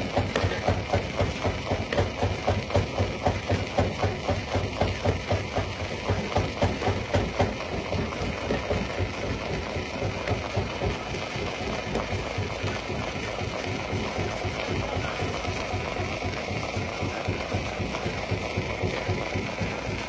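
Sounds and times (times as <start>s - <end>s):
stone crusher rumbling: 0.0s - 20.0s.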